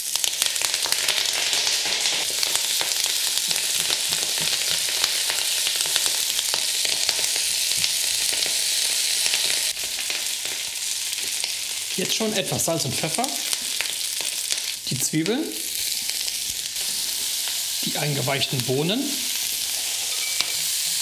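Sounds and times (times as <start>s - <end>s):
leaves sizzling in hot oil: 0.0s - 21.0s.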